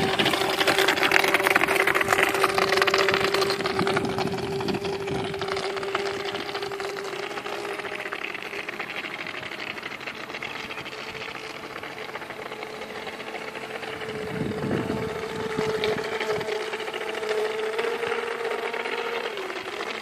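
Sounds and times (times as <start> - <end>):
model boat motor humming: 0.0 - 20.0.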